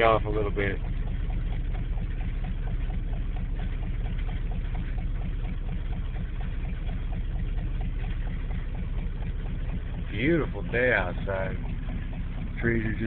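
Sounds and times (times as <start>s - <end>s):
light regular engine ticking: 0.0s - 13.0s
truck engine idling: 0.0s - 13.0s.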